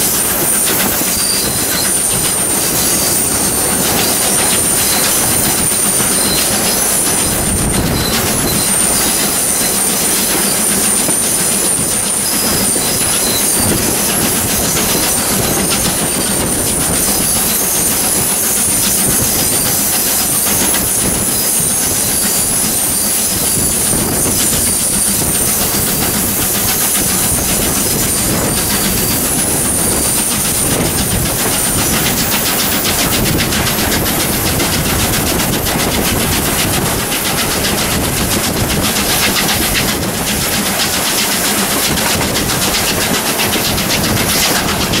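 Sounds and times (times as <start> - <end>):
high-pitched wheel squeal: 0.0 - 45.0
train wheels clattering over rail joints: 0.0 - 45.0.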